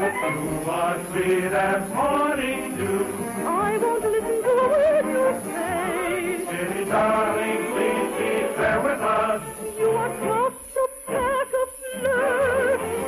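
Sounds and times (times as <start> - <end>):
orchestral accompaniment: 0.0 - 10.6
voices singing with vibrato: 0.0 - 13.0.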